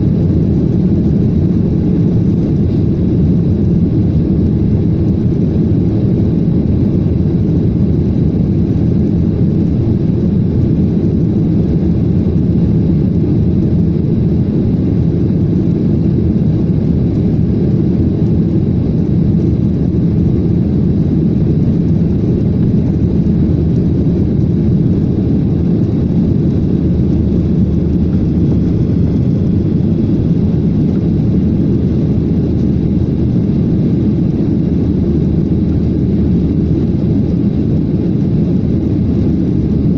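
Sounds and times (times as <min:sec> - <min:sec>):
jet engines low rumble: 0:00.0 - 0:39.9.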